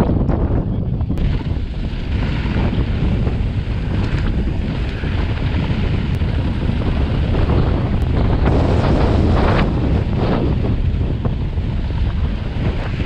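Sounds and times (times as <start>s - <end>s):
bike tyres rumbling on dirt: 0.0s - 13.0s
wind buffeting microphone: 0.0s - 13.0s.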